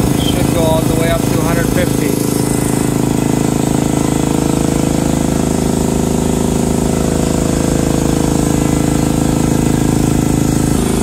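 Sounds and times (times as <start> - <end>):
air compressor pump pulsing: 0.0 - 11.0.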